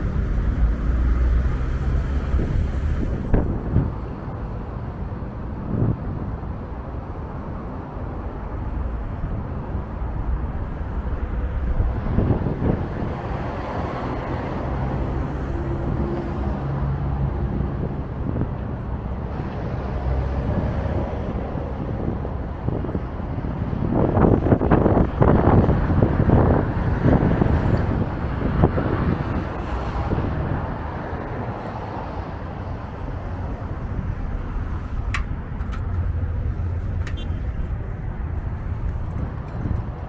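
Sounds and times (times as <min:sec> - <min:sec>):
vehicles passing: 0:00.0 - 0:40.0
wind buffeting microphone: 0:00.0 - 0:40.0.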